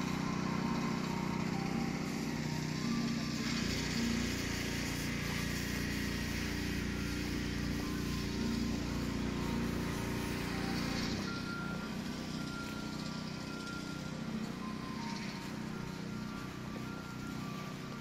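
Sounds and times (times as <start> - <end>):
leaf blower running: 0.0 - 18.0.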